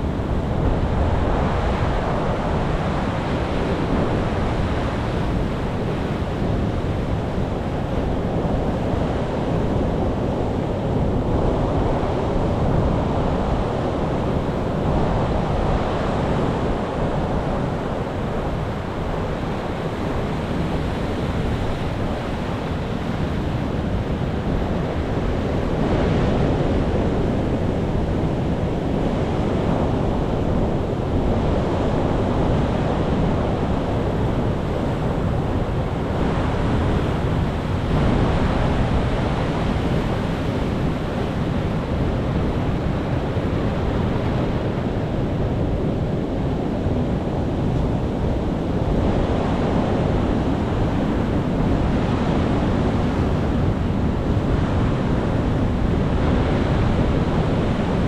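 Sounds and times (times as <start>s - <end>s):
sea waves surging: 0.0s - 58.0s.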